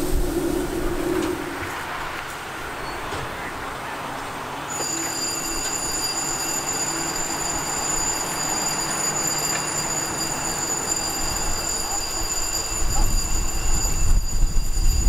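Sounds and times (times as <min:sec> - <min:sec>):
locomotive mechanical noise: 0:00.0 - 0:15.0.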